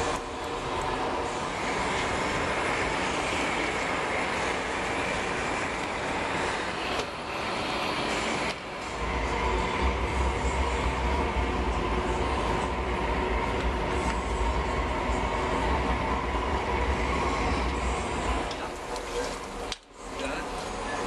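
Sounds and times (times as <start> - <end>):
gas furnace roaring: 0.0 - 21.0.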